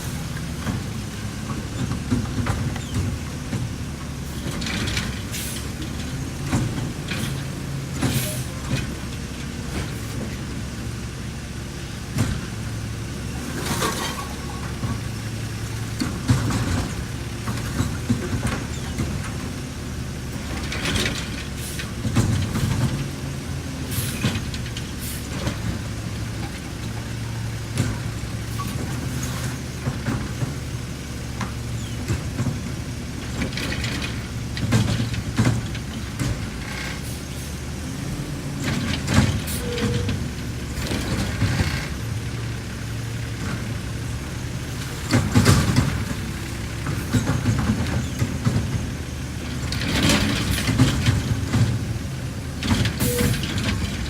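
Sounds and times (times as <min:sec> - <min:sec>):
garbage truck engine running: 0:00.0 - 0:54.0
truck clanks and bangs: 0:00.0 - 0:54.0.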